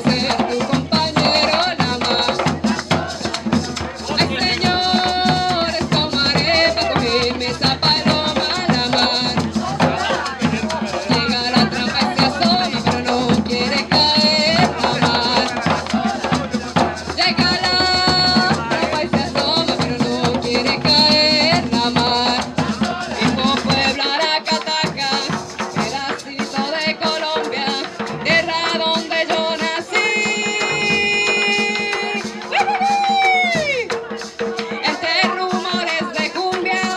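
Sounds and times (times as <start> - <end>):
hand drums: 0.0 - 36.9
shaken maracas: 0.0 - 36.9.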